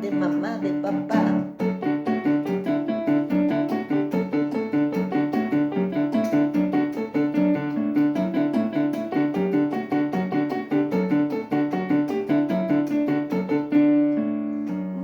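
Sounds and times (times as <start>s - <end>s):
piano-style keyboard playing: 0.0s - 15.0s.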